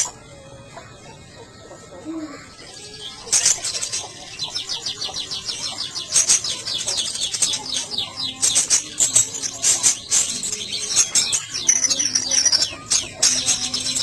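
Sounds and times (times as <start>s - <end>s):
bird twittering song: 0.0s - 14.0s.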